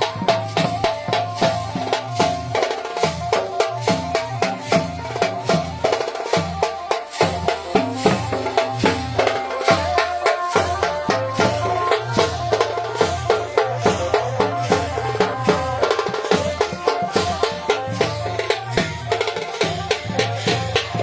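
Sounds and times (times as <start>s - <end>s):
band playing folk melody: 0.0s - 21.0s
driving drumming: 0.0s - 21.0s.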